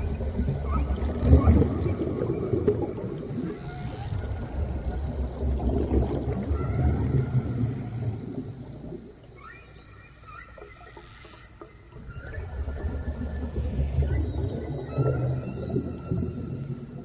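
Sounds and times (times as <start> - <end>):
low rumbling water noise: 0.0 - 17.0
whale song calls: 0.0 - 17.0.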